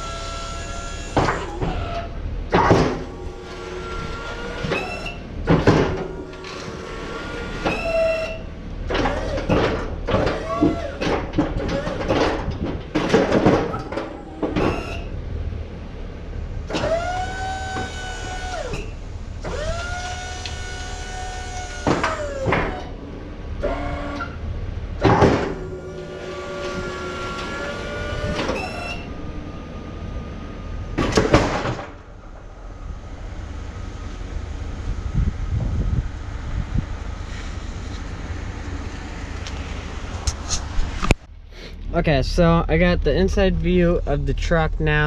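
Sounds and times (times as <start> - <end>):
hydraulic pump whining: 0.0 - 45.0
truck idling: 0.0 - 45.0.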